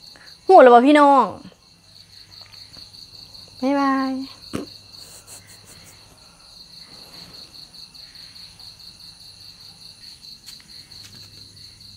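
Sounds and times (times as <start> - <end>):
crickets chirping: 0.0 - 11.9.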